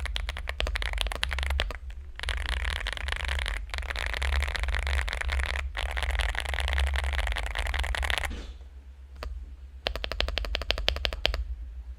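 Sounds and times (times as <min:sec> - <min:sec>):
fast mechanical keyboard typing: 0:00.0 - 0:08.3, 0:09.2 - 0:11.4.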